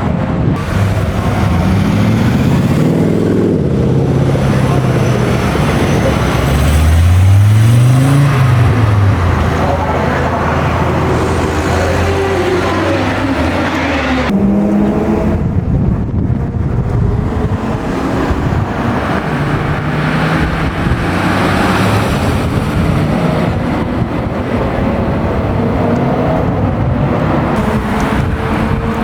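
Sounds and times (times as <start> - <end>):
car engines running: 0.0 - 29.0
road and wind noise: 0.0 - 29.0.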